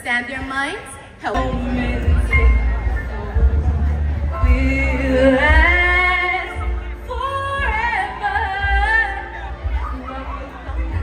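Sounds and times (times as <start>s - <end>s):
backing track with heavy bass: 1.2s - 11.0s
woman singing: 1.3s - 11.0s.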